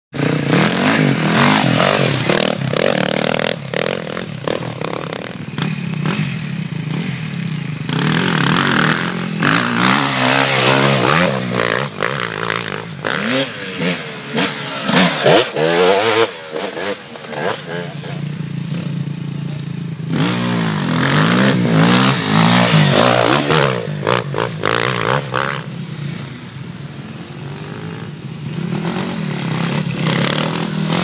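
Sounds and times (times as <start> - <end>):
motorcycle engines revving: 0.1 - 31.0.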